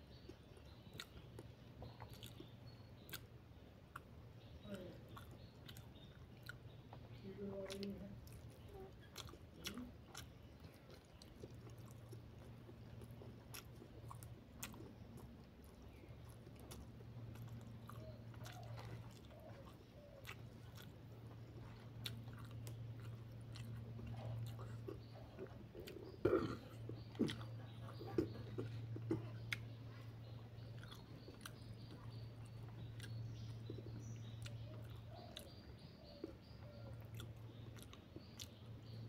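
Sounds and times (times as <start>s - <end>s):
close chewing and mouth sounds: 0.0s - 39.0s
low steady hum: 0.0s - 39.0s.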